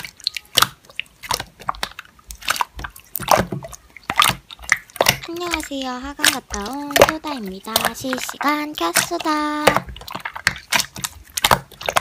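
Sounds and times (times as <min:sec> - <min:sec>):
slime squelching by hand: 0:00.0 - 0:12.0.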